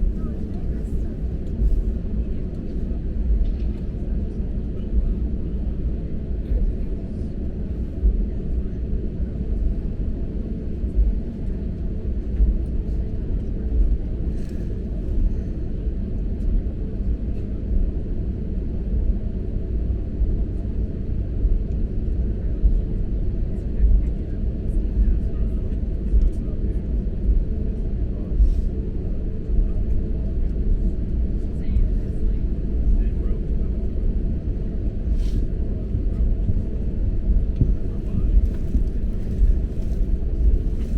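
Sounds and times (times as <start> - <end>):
aircraft cabin rumble: 0.0 - 40.9.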